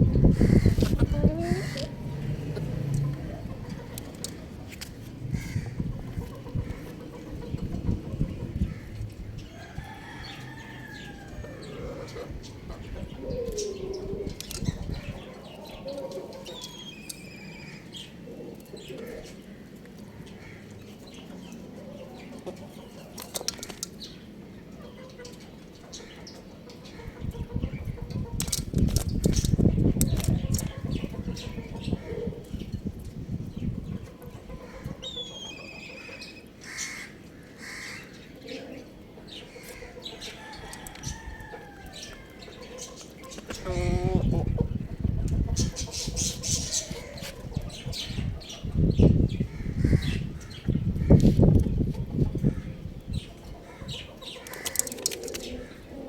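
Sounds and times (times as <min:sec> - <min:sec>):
low wavering bird calls: 0:00.0 - 0:28.4, 0:33.5 - 0:56.0.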